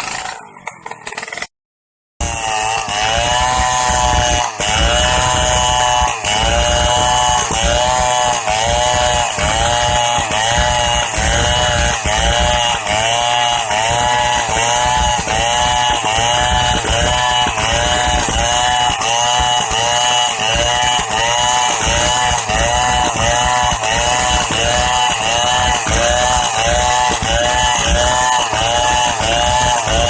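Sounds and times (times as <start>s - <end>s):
chainsaw cutting through log: 0.0s - 1.5s, 2.2s - 30.0s.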